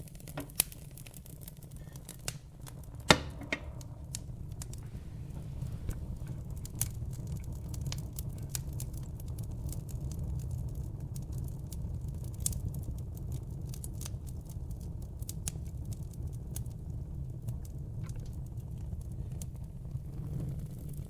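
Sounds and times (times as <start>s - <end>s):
wood fire crackling and snapping: 0.0s - 21.0s.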